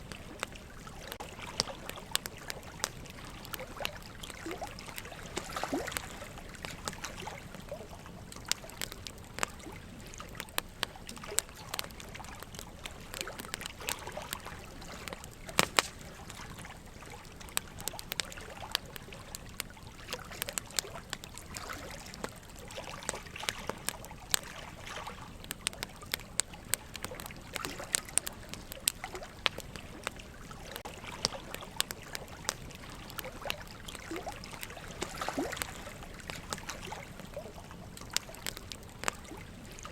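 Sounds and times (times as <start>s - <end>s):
water trickling: 0.0s - 39.9s
wood fire crackling and popping: 0.0s - 39.9s.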